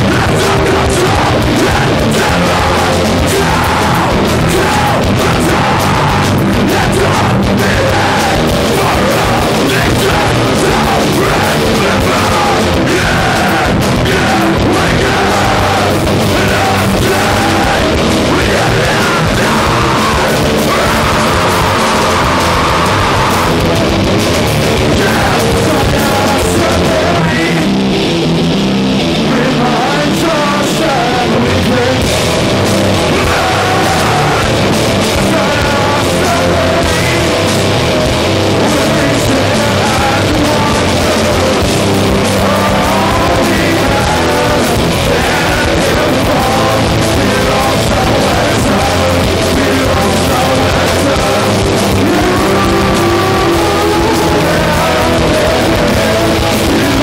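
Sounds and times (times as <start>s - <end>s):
bass: 0.0s - 57.0s
distorted electric guitars: 0.0s - 57.0s
drums: 0.0s - 57.0s
person singing: 0.0s - 57.0s.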